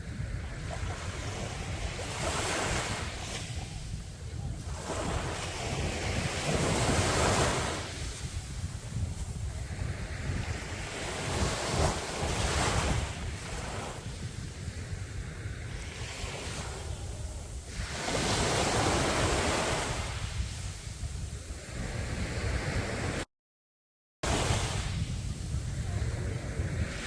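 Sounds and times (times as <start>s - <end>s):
sea waves breaking on beach: 0.0s - 23.2s, 24.2s - 27.0s
wind rumble on microphone: 0.0s - 23.3s, 24.2s - 27.0s.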